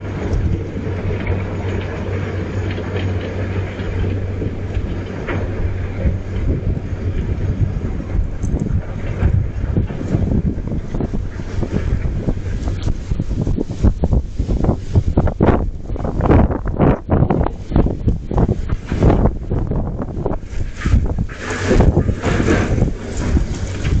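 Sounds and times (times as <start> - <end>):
wind buffeting the microphone: 0.0 - 24.0.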